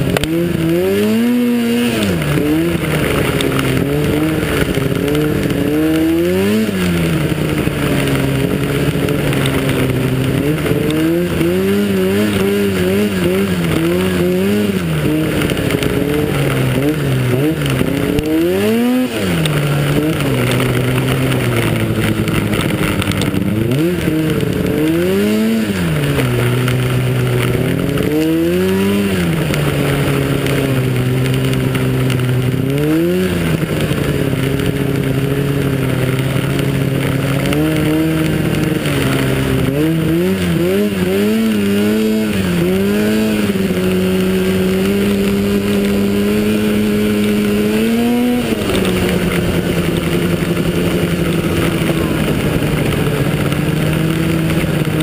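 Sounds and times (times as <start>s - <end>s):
snowmobile engine racing: 0.0s - 55.0s
wind and track hiss: 0.0s - 55.0s.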